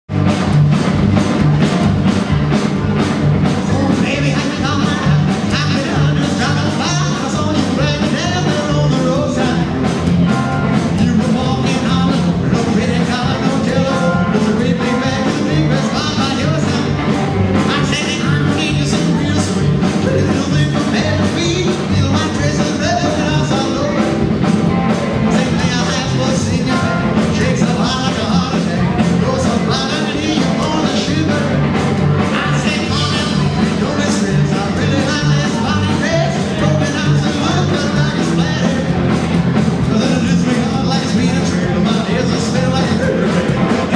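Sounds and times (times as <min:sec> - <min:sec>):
upright double bass: 0:00.0 - 0:43.9
electric guitar: 0:00.1 - 0:43.9
steady driving beat: 0:00.1 - 0:43.9
man singing: 0:03.5 - 0:24.3, 0:25.2 - 0:43.9.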